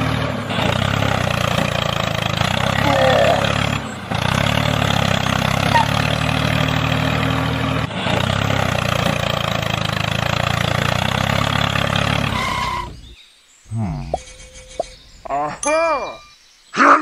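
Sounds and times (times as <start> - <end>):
tractor engine running: 0.0 - 16.3.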